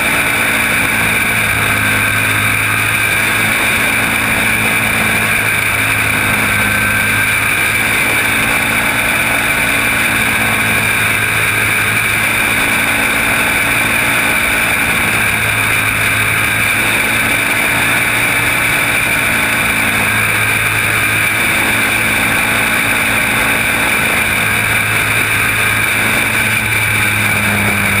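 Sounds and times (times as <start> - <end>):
kart engine running hard: 0.0 - 28.0.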